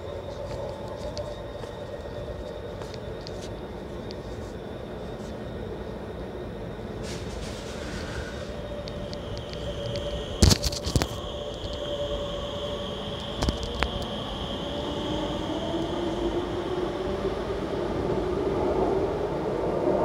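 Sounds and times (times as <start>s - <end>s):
metro train accelerating whine: 0.0s - 20.0s.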